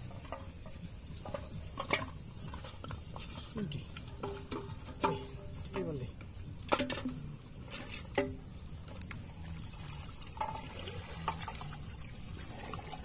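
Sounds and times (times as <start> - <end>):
river water sloshing: 0.1 - 13.0.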